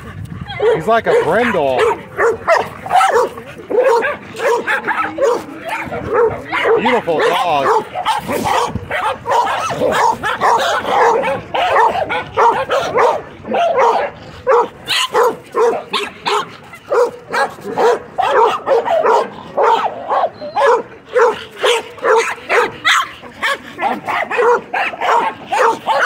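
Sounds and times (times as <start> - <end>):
dog barking steadily: 0.0 - 26.0
dogs barking: 0.0 - 26.0.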